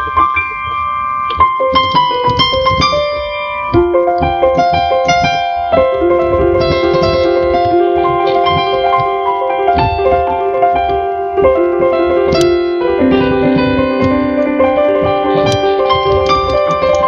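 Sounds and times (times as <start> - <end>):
digital piano melody over chords: 0.0 - 17.0.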